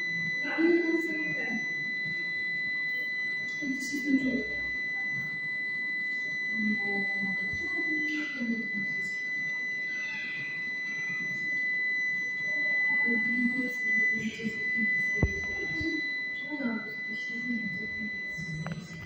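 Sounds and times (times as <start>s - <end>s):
high-pitched electronic whine: 0.0s - 19.0s.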